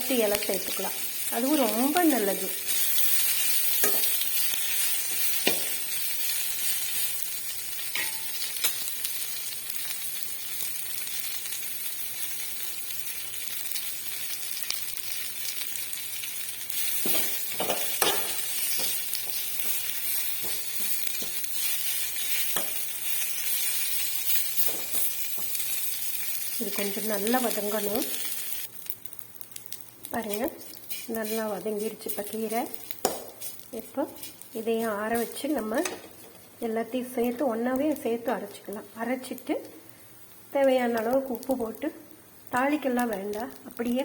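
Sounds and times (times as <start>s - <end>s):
greens sizzling in oil: 0.0s - 44.0s.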